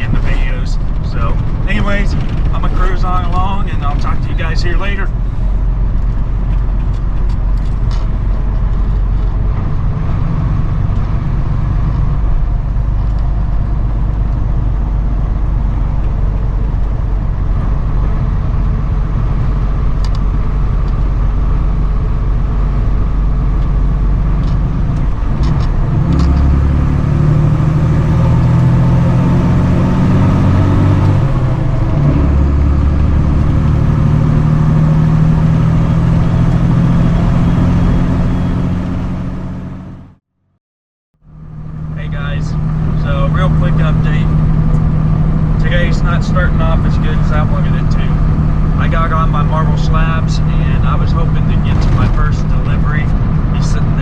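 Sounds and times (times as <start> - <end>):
truck engine running: 0.0 - 40.2, 41.2 - 54.0.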